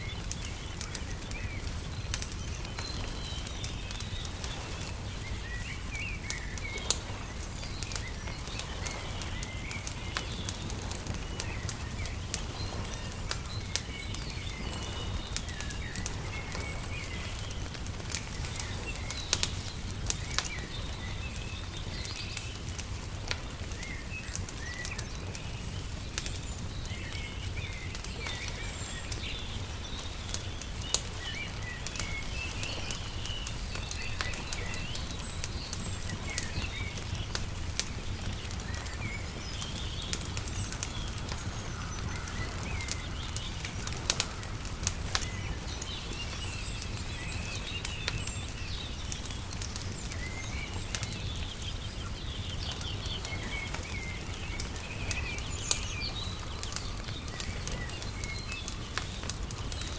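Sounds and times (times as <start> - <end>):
small birds chirping: 0.0 - 59.9
wood fire crackling: 0.0 - 59.9.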